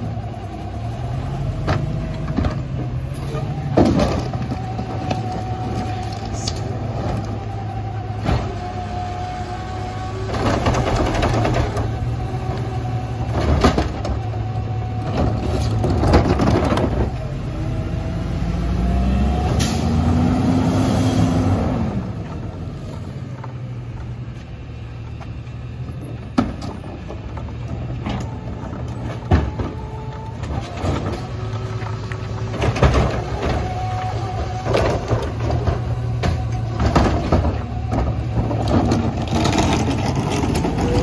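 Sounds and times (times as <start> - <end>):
clanking and banging of bins: 0.0 - 9.3, 10.0 - 18.1, 25.1 - 41.0.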